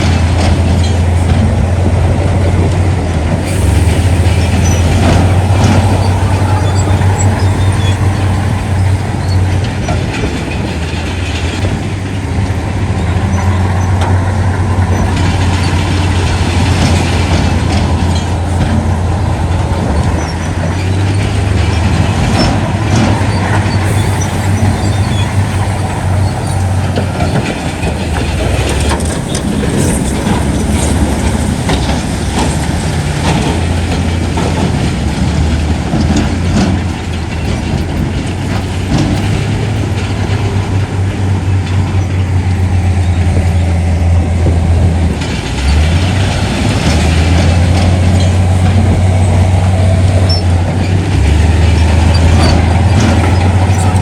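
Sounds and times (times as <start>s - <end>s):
heavy diesel engine drone: 0.0s - 54.0s
machinery knocks and clanks: 0.0s - 54.0s.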